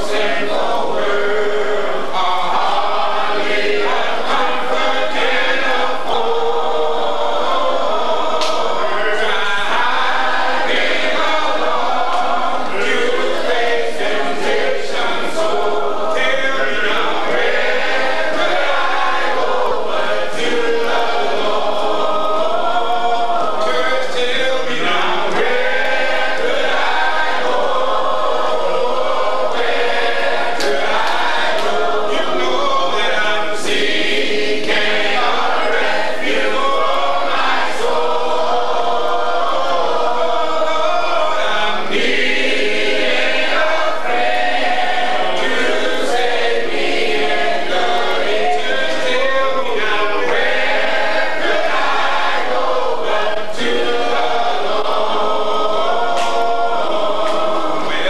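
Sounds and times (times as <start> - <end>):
choir singing gospel song: 0.0 - 58.0.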